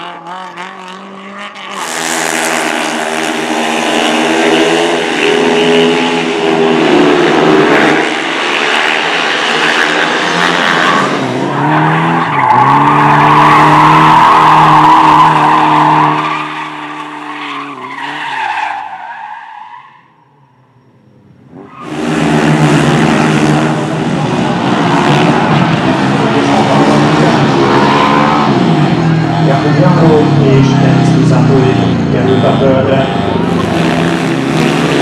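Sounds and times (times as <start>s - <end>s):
motorcycle engines racing: 0.0s - 18.2s, 21.5s - 35.0s
car engine revving: 0.0s - 18.6s, 21.3s - 35.0s.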